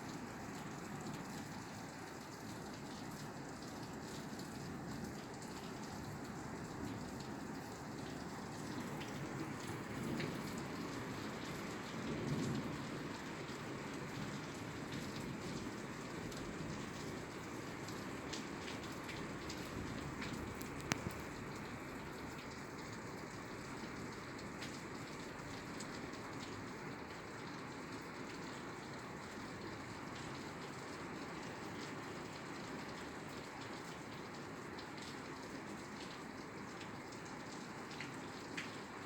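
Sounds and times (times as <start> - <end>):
rain on a roof: 0.0 - 39.0.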